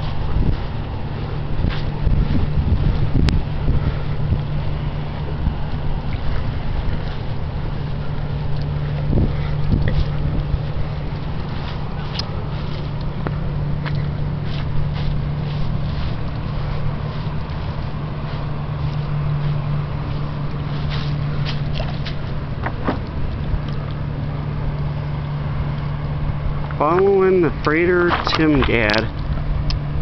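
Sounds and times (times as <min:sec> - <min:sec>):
ship engine drone: 0:00.0 - 0:30.0.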